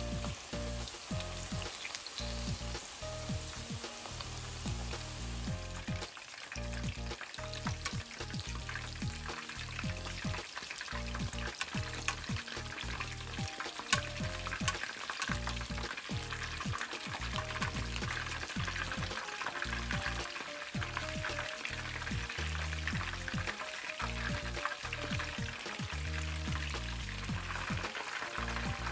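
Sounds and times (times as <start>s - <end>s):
background music: 0.0s - 28.9s
chicken wings sizzling in oil: 0.0s - 28.9s.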